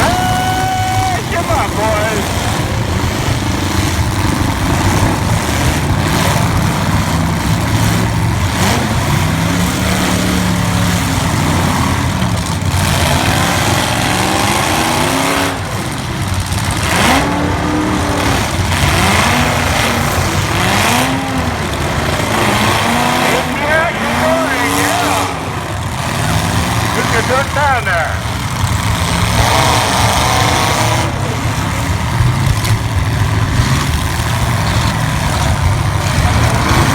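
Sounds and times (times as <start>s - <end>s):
car engines revving: 0.0s - 36.9s.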